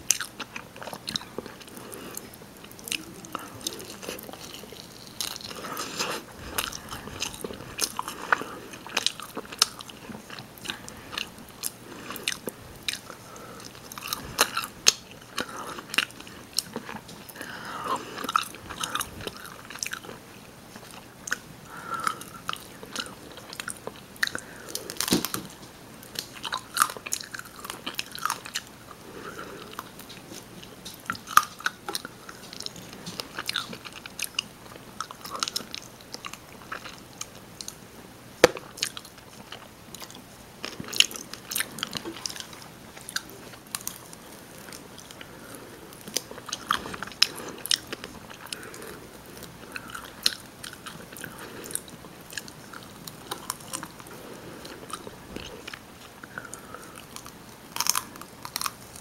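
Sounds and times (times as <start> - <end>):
chewing and biting: 0.0 - 37.8, 38.4 - 59.0.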